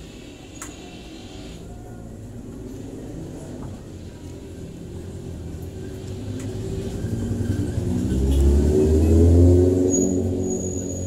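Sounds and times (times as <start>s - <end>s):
vehicle engine approaching: 1.6s - 11.0s.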